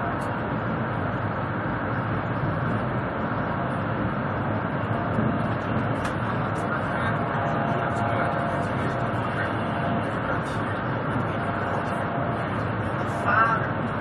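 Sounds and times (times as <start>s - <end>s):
train rushing rumble inside car: 0.0s - 14.0s.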